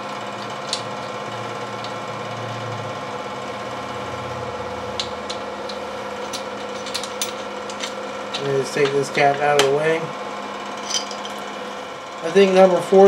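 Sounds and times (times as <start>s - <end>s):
heater humming: 0.0s - 13.0s.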